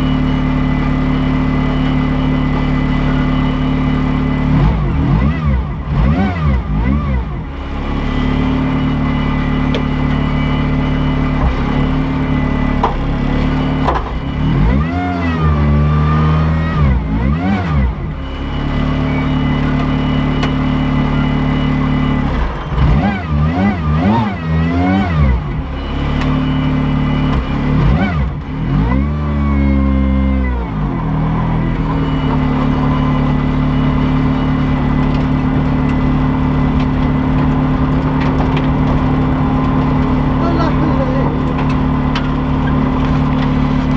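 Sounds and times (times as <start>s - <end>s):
race car engine idling and revving: 0.0s - 43.9s.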